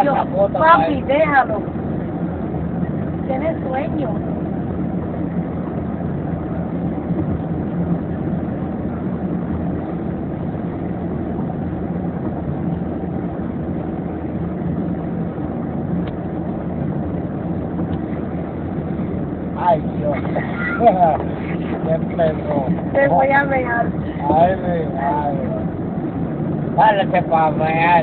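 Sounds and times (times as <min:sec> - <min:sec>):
car cabin road and engine noise: 0:00.0 - 0:28.0.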